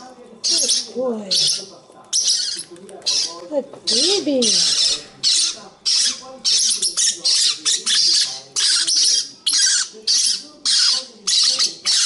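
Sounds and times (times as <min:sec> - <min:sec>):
parrot squawking: 0:00.4 - 0:12.0.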